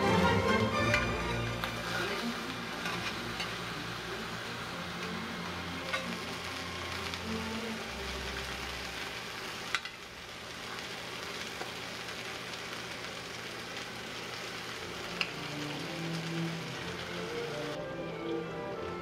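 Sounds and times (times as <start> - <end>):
chicken sizzling in hot fat: 0.0 - 19.0.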